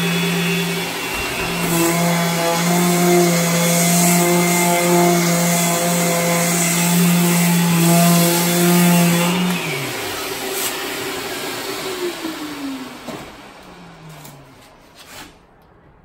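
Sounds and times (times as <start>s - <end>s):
sanding pad hissing on finish: 0.0s - 13.0s
orbital sander humming: 0.0s - 14.8s.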